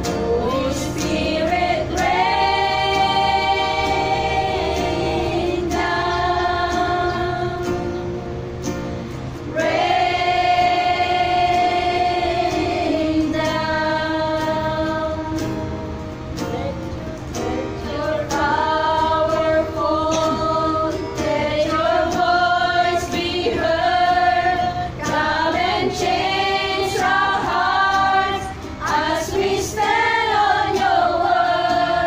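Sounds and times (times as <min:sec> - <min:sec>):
women singing worship song: 0:00.0 - 0:08.2, 0:09.4 - 0:15.8, 0:17.4 - 0:32.0
acoustic guitar: 0:00.0 - 0:32.0.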